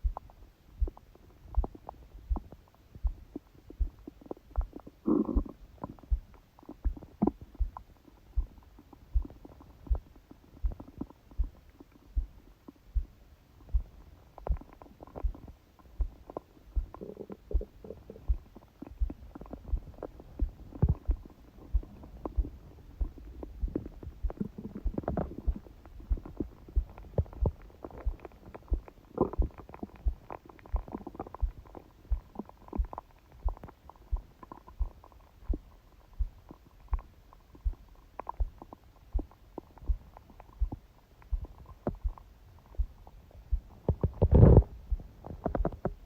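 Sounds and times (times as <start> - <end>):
fast heartbeat thumping: 0.0 - 42.2, 42.8 - 46.0
stomach gurgling and rumbling: 0.0 - 46.0.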